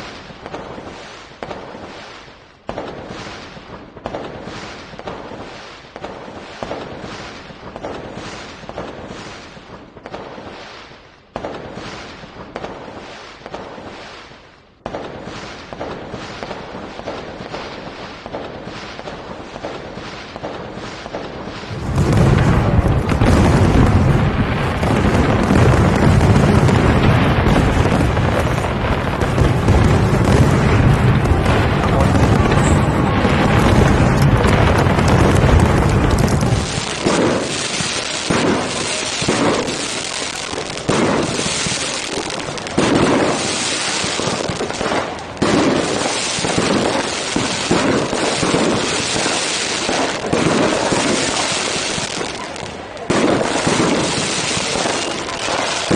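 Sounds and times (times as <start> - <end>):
fireworks barrage with deep booms: 0.0 - 55.9
separate firework bangs: 0.0 - 55.9.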